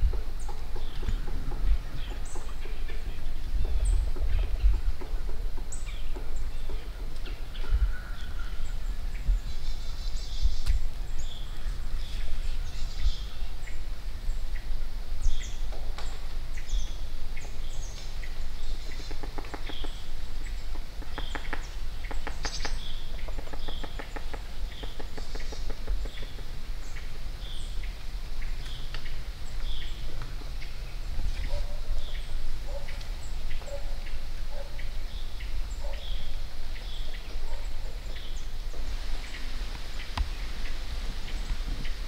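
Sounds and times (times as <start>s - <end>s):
wind rumble on microphone: 0.0s - 42.0s.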